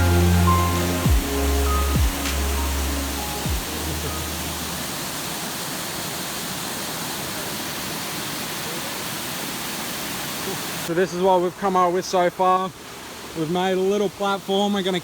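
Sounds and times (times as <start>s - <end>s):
creek and waterfall rushing: 0.0s - 15.0s.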